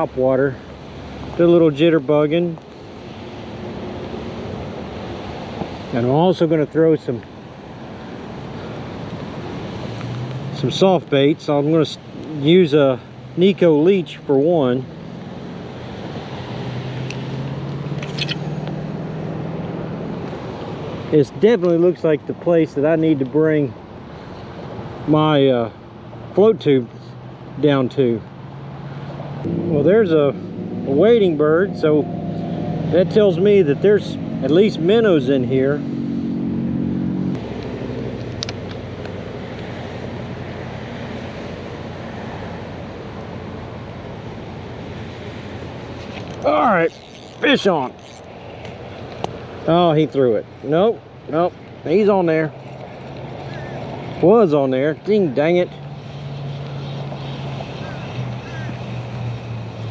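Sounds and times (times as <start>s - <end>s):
highway traffic hum: 0.0s - 59.9s.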